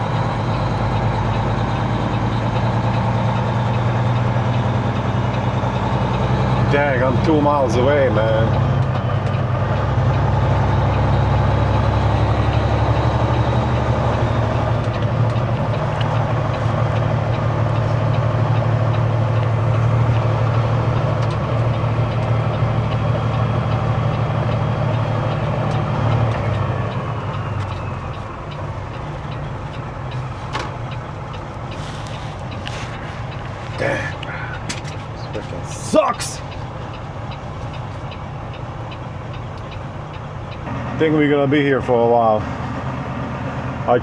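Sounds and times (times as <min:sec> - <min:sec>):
truck diesel engine running: 0:00.0 - 0:44.0.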